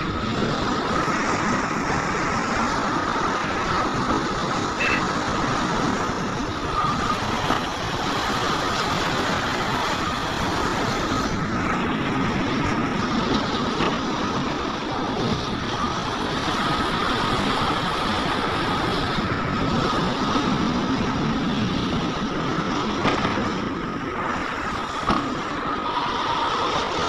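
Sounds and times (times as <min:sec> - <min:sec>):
diesel engine running: 0:00.0 - 0:27.0
high whine: 0:00.0 - 0:27.0.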